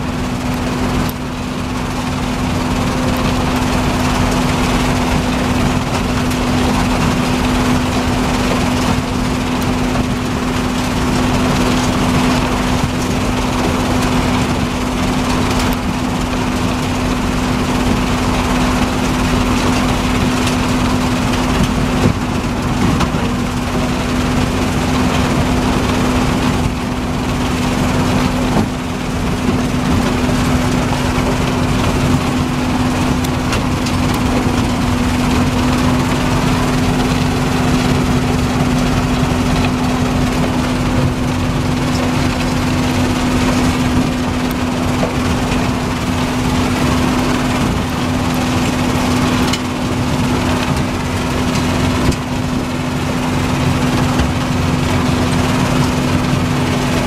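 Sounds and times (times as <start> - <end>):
impact crusher crushing asphalt: 0.0 - 57.0
steady machinery hum: 0.0 - 57.0.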